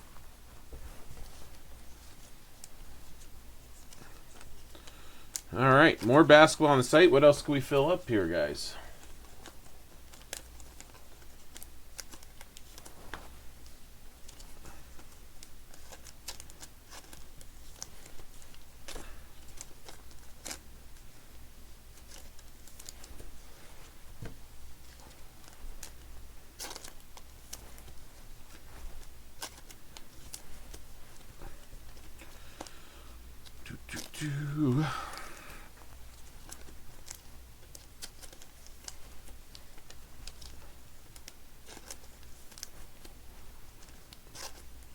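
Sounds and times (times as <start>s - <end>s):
low steady hum: 0.0s - 44.9s
plastic sleeves rustling: 0.0s - 44.9s.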